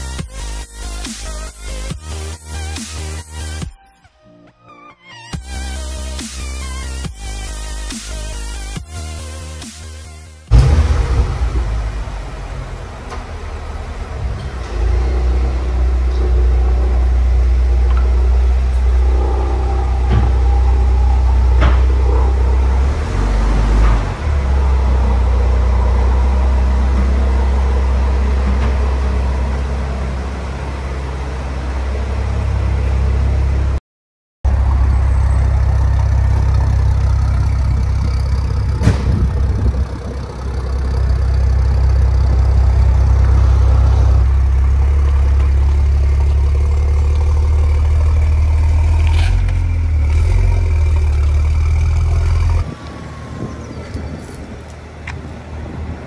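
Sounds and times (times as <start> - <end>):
car engine running: 10.4 - 33.8, 34.4 - 56.0.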